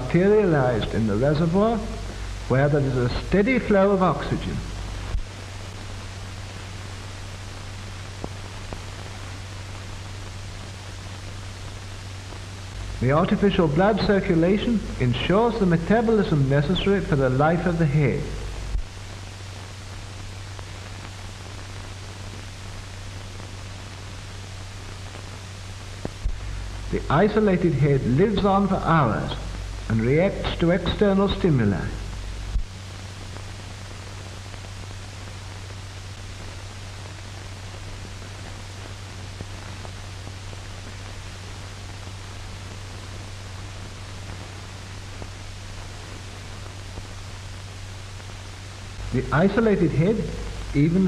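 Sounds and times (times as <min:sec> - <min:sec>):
low hum: 0:00.0 - 0:39.4, 0:43.2 - 0:51.0
faint crackles: 0:00.0 - 0:51.0
film soundtrack hiss: 0:00.0 - 0:51.0.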